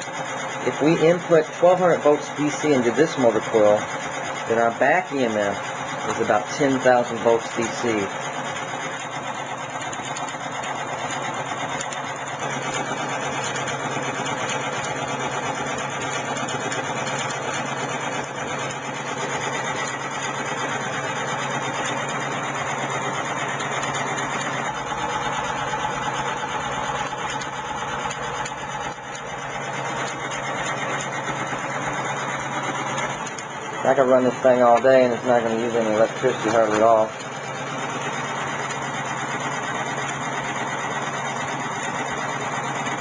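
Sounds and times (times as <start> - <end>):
electric motor buzzing whir: 0.0 - 43.0
steady low hum: 0.0 - 43.0.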